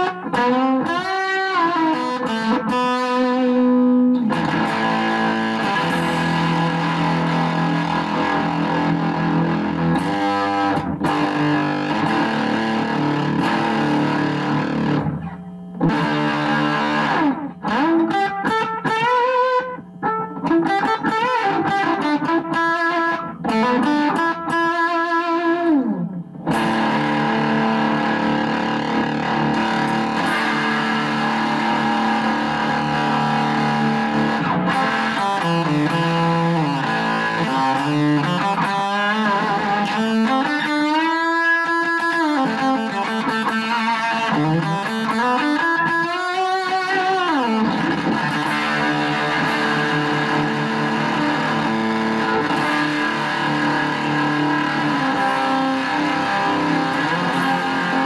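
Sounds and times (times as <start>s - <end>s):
distorted electric guitar: 0.0s - 58.0s.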